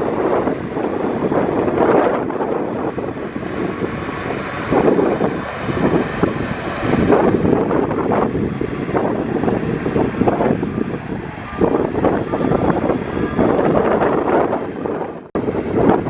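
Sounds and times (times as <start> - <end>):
diesel machinery engine: 0.0 - 16.0
wind buffeting microphone: 0.0 - 16.0.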